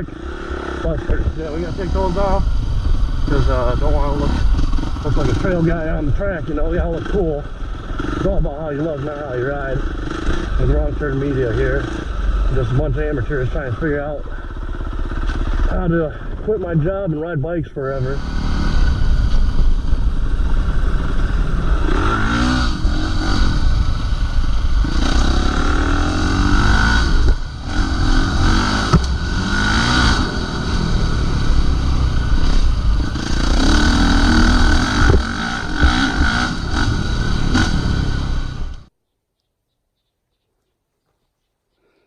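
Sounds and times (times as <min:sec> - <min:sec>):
dirt bike engine revving: 0:00.0 - 0:17.2, 0:18.0 - 0:38.9.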